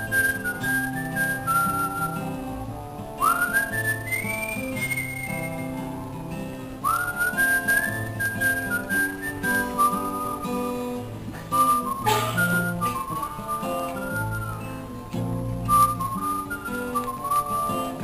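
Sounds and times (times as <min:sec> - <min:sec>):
man whistling a melody: 0:00.0 - 0:18.0
strummed acoustic guitar: 0:00.0 - 0:18.0.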